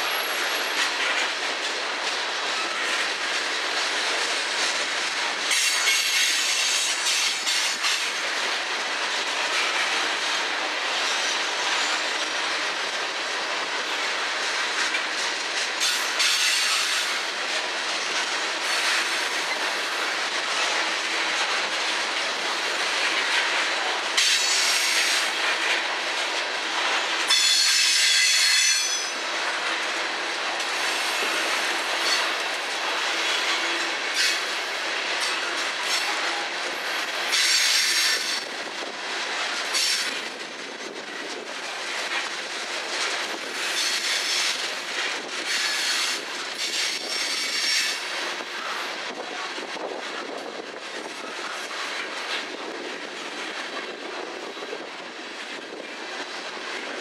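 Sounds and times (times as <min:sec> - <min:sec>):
train wheels clicking over rail joints: 0:00.0 - 0:54.3.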